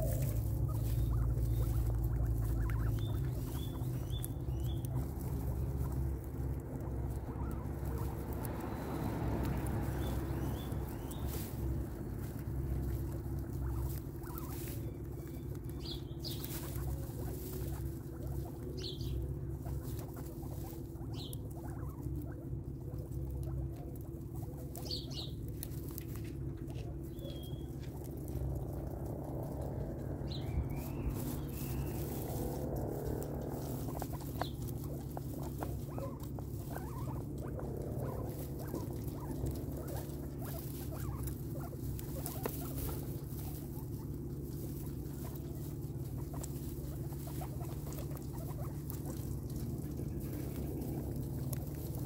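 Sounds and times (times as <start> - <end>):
guinea pig chirps: 0.0 - 52.0
guinea pigs chewing vegetables: 0.0 - 52.0.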